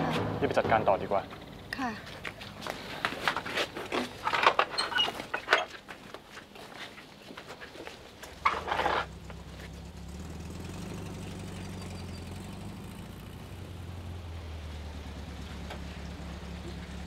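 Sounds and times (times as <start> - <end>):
car engine idling: 0.0 - 5.4, 8.1 - 17.0.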